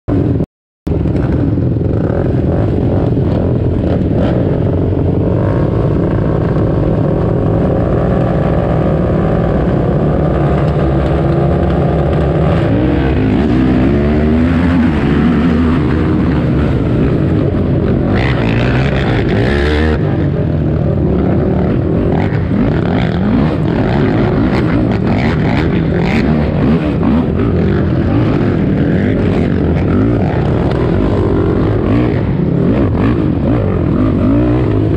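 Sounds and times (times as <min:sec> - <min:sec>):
other quad engines: 0:00.1 - 0:34.9
quad engine revving: 0:01.0 - 0:34.9.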